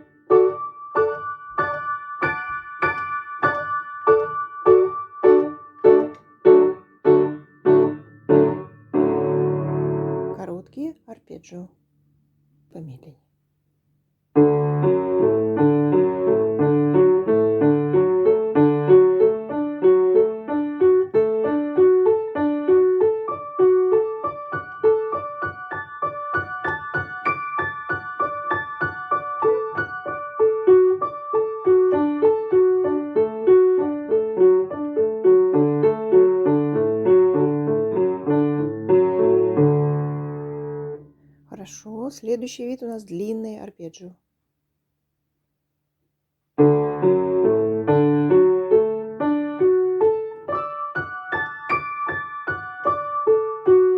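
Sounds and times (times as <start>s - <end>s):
piano playing arpeggios: 0.0s - 10.4s, 14.4s - 41.1s, 46.6s - 53.9s.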